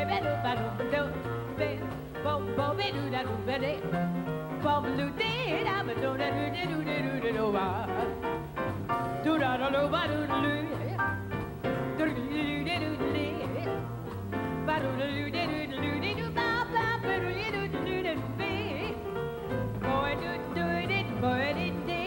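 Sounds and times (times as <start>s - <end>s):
double bass walking line: 0.0s - 22.0s
piano: 0.0s - 22.0s.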